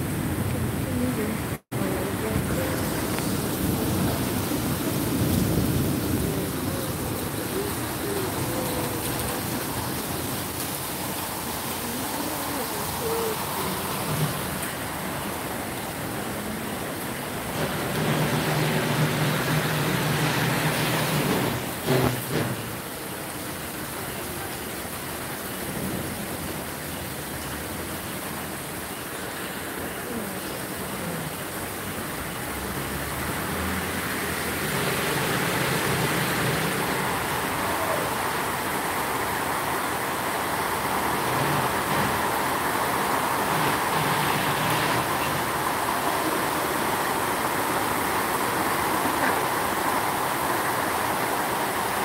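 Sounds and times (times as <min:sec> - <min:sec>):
steady rain on wet street: 0:00.0 - 0:52.0.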